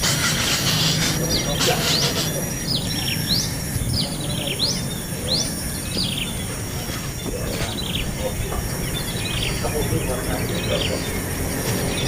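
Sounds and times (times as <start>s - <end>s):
baby birds chirping: 0.0s - 12.0s
steady low hum: 0.0s - 12.0s.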